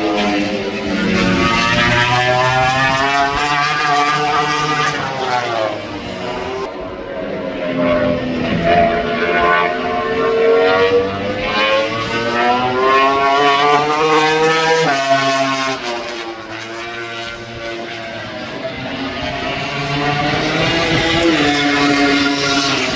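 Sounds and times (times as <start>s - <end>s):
racing motorcycle engine revving: 0.0s - 22.9s.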